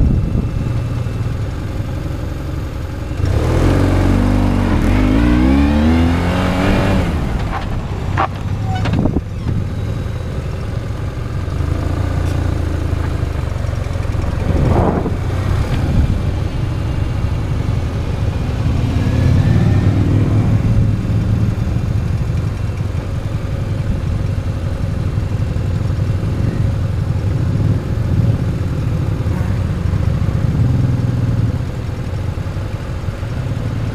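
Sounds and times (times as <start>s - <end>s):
motorcycle engine revving: 2.9s - 32.7s.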